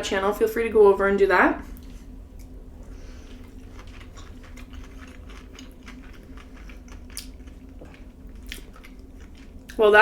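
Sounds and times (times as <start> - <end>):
low room hum: 0.0 - 10.0
person chewing food: 1.8 - 9.8.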